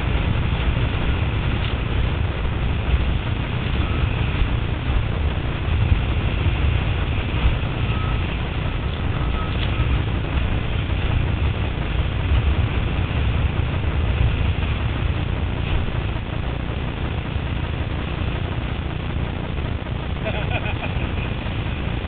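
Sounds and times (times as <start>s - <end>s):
water rushing and splashing: 0.0s - 22.0s
wind buffeting microphone: 0.0s - 22.0s.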